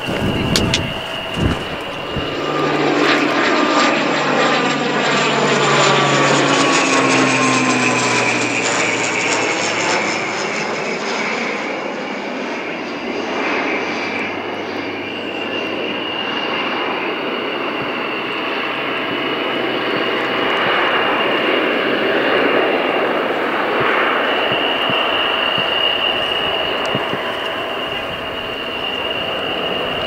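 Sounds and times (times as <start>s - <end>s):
aircraft engine roaring overhead: 0.0s - 30.0s.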